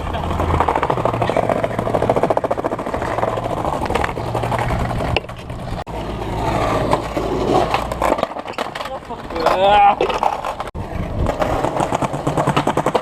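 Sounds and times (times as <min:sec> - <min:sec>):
skateboard wheels rolling on pavement: 0:00.0 - 0:13.0.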